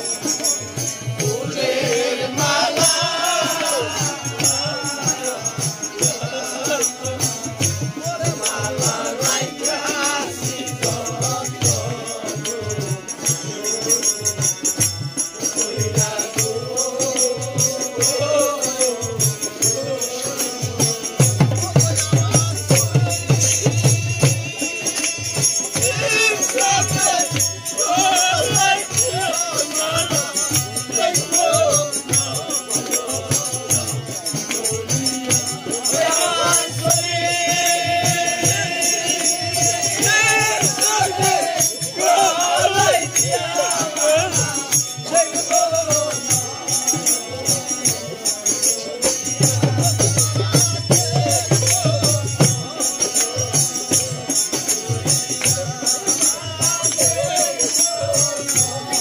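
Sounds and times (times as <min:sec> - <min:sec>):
harmonium: 0:00.0 - 0:59.0
jingling hand percussion: 0:00.0 - 0:59.0
men singing: 0:00.0 - 0:59.0.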